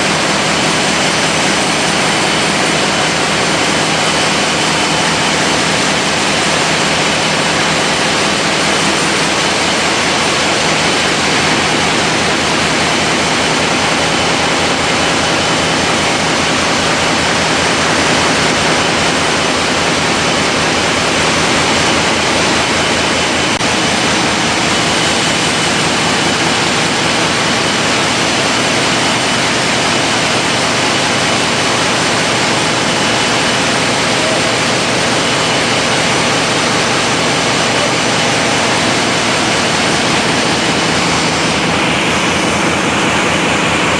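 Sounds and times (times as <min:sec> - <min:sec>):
diesel machinery drone: 0:00.0 - 0:43.9.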